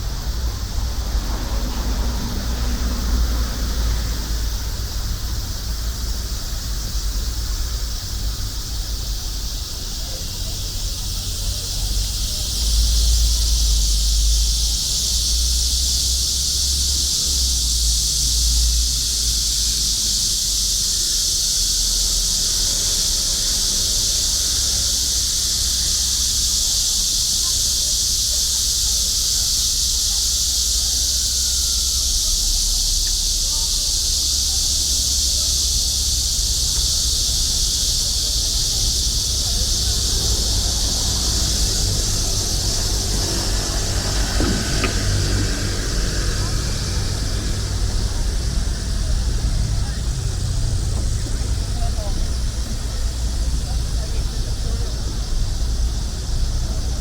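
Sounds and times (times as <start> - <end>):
cicadas buzzing: 0.0 - 57.0.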